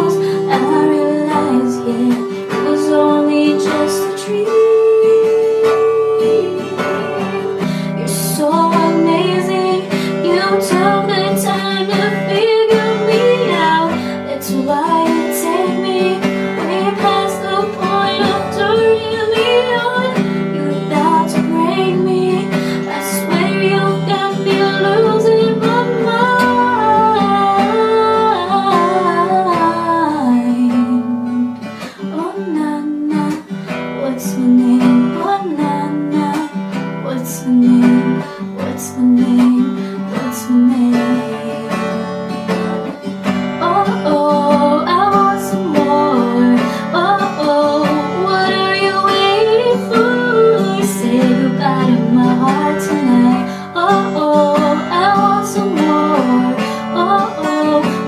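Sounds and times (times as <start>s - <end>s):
acoustic guitar strumming: 0.0s - 58.0s
woman singing: 0.0s - 58.0s.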